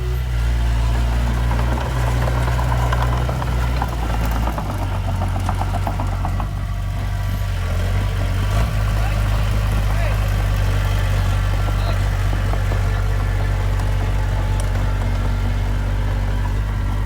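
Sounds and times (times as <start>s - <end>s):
heavy diesel engine running: 0.0s - 17.0s
rapid rattling: 0.2s - 17.0s.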